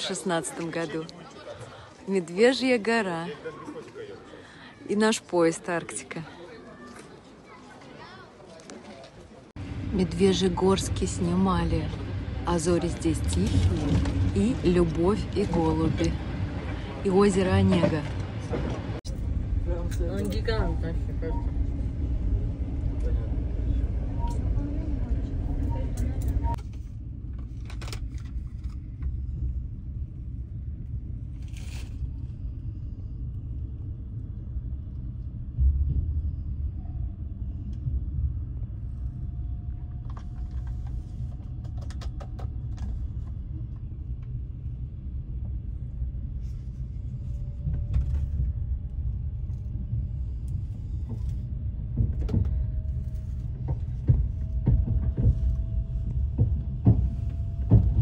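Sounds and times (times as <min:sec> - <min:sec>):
train rumble: 0:09.5 - 0:58.0.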